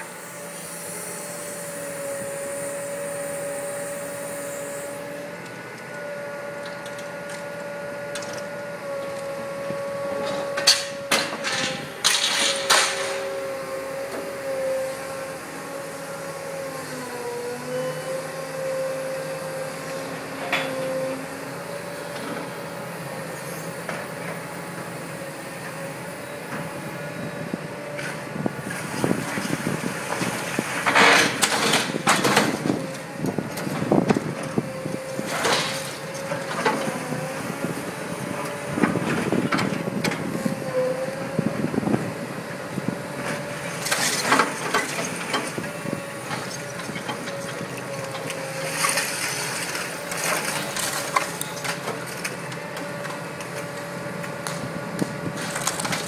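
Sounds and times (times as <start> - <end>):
excavator engine and hydraulic hum: 0.0 - 56.0.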